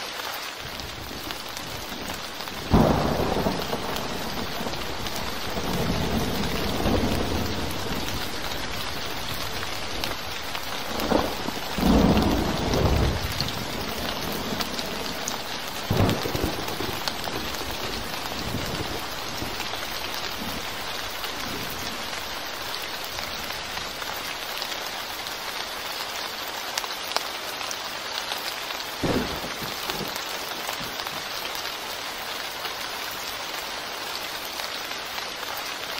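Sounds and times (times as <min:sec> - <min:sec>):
rain on concrete pavement: 0:00.0 - 0:35.9.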